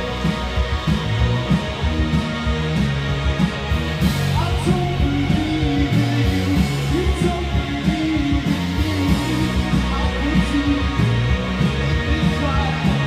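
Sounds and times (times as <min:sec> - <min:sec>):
bass line: 0:00.0 - 0:13.0
electric guitars: 0:00.0 - 0:13.0
live rock band playing: 0:00.0 - 0:13.0.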